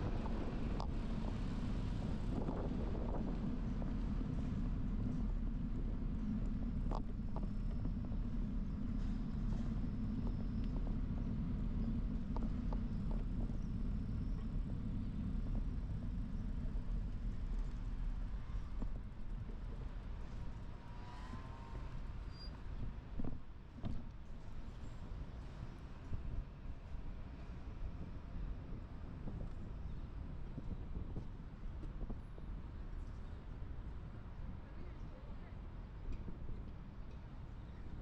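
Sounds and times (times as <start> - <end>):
wind on microphone: 0.0 - 24.1, 25.0 - 37.0.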